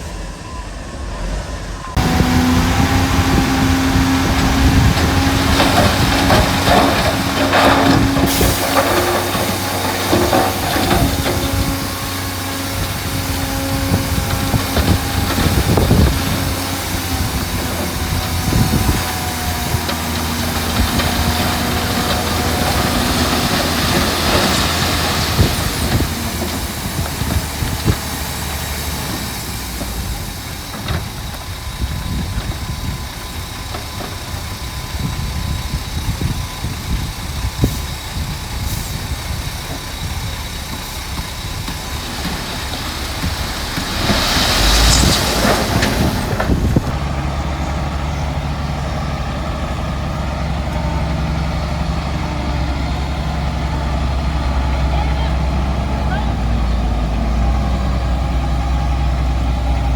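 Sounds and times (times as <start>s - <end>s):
diesel machinery running under load: 0.0s - 59.9s.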